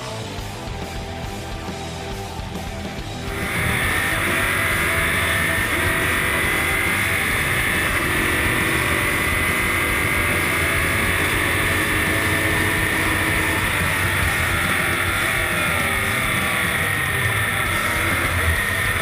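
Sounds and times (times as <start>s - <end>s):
race car engine running hard: 0.0s - 19.0s
high whine: 0.7s - 19.0s.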